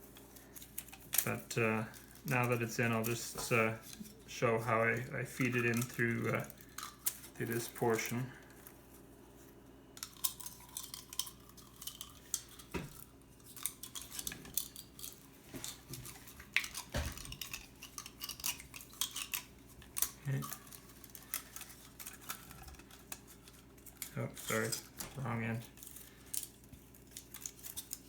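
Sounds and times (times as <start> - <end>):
small hard parts clicking and scraping: 0.1 - 8.7, 10.0 - 28.0.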